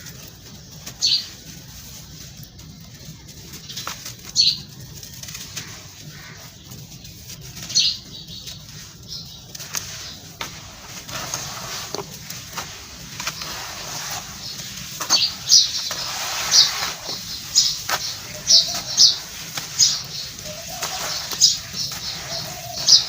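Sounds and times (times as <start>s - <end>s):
dry crumbles crunching: 0.0s - 23.0s
gritty rustles and clicks: 0.0s - 23.0s.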